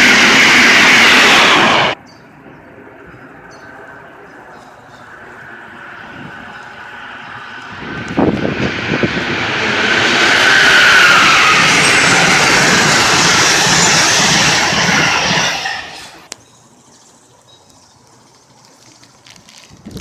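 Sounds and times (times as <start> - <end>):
sharp train clicks: 0.0 - 16.4
train rushing roar: 0.0 - 16.4.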